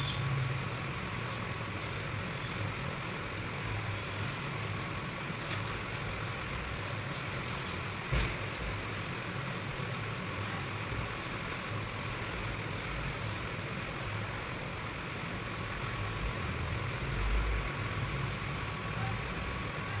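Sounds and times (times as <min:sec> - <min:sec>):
low rumbling background noise: 0:03.6 - 0:20.0.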